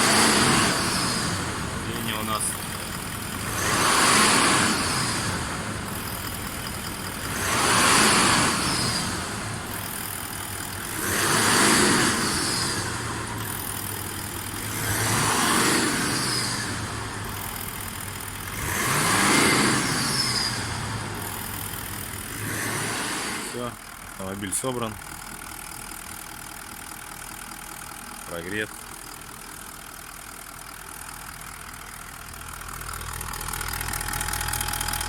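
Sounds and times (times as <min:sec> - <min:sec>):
diesel engine idling and revving: 0:00.0 - 0:35.0.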